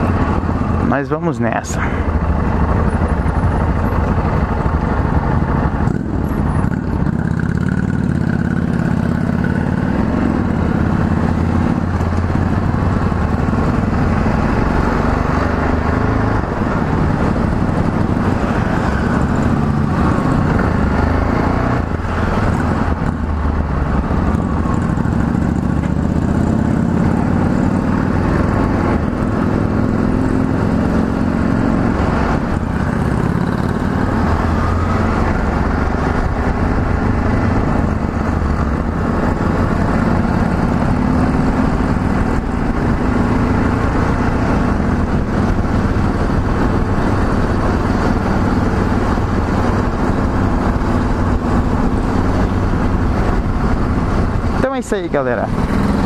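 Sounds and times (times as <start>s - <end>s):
motorcycle engine running: 2.0s - 56.0s.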